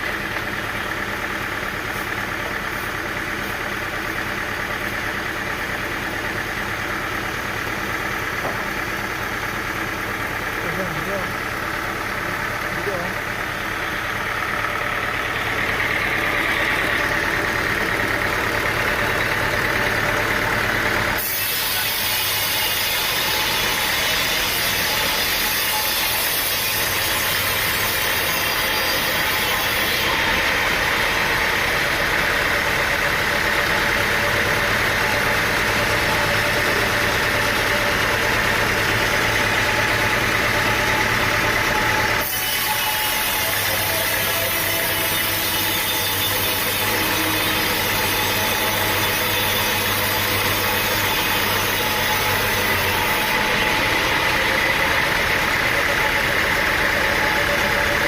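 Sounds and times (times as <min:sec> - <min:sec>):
engine hum: 0:00.0 - 0:58.0
sawmill machinery running: 0:00.0 - 0:58.0.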